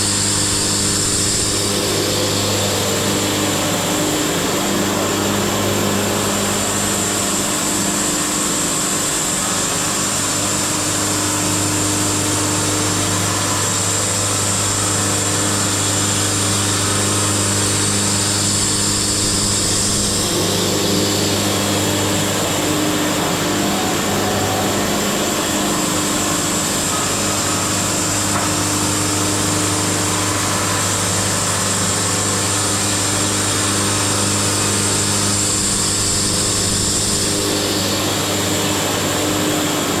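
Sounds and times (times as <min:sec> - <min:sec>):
band sawmill running: 0:00.0 - 0:40.0
high saw whine: 0:00.0 - 0:40.0.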